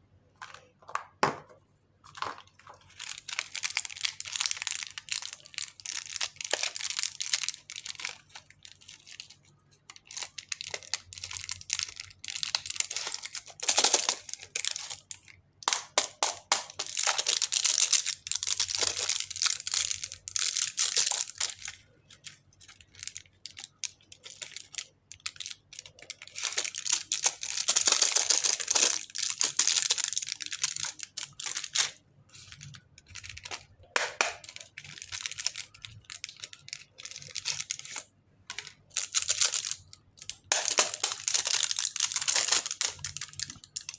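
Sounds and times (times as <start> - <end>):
plastic packaging crinkling: 2.1 - 43.9.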